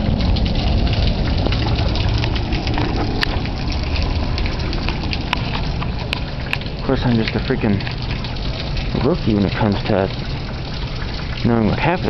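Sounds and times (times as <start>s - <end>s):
sharp raindrop hits: 0.0s - 11.5s
heavy rain pouring: 0.0s - 12.0s.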